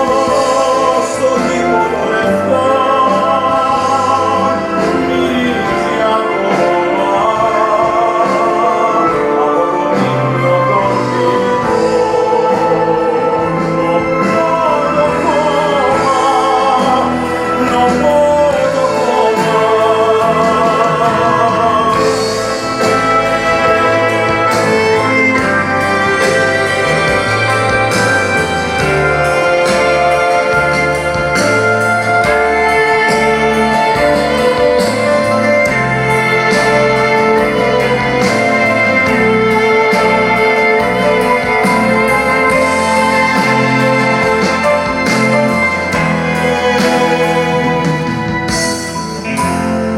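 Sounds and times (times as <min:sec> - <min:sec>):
instrumental music with bass line: 0:00.0 - 0:49.9.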